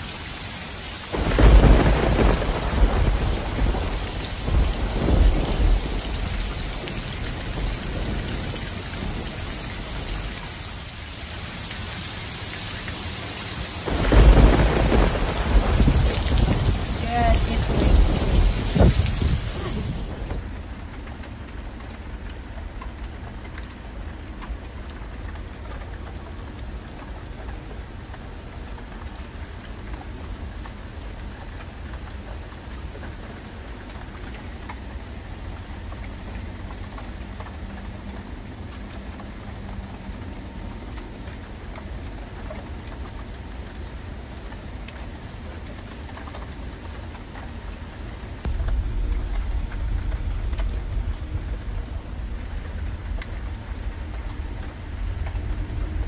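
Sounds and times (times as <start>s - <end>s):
heavy rain falling: 0.0s - 56.0s
raindrops ticking on surfaces: 0.0s - 56.0s.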